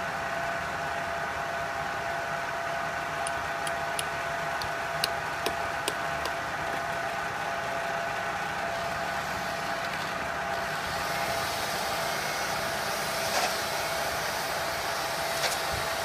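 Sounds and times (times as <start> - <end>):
workshop machinery humming: 0.0 - 16.0.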